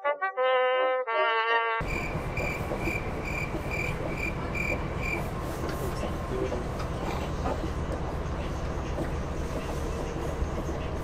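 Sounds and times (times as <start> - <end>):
train carriage rumble: 1.8 - 11.0.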